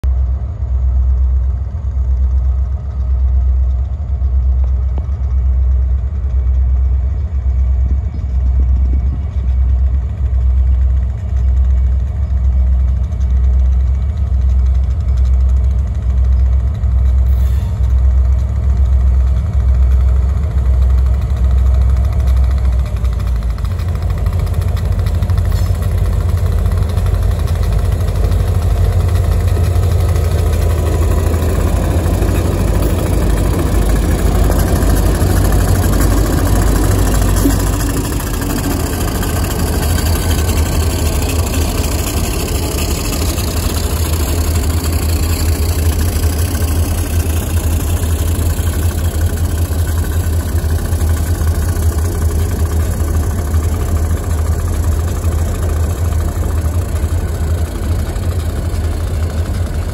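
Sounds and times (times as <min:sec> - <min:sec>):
diesel locomotive engine rumble: 0:00.0 - 0:59.9.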